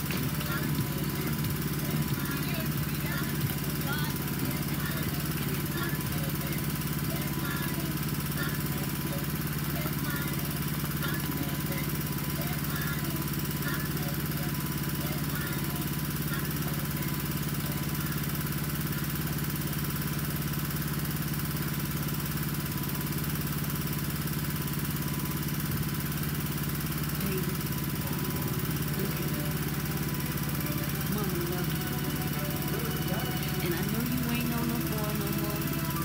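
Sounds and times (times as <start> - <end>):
small engine droning: 0.0 - 36.0.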